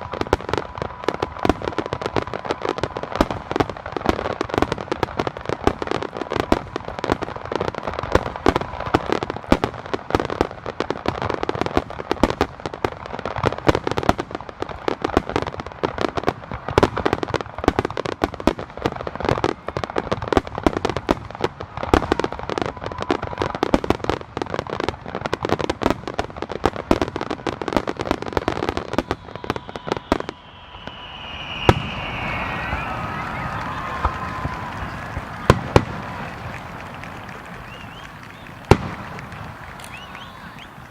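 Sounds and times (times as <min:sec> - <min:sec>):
fireworks bursts and crackling: 0:00.0 - 0:40.9.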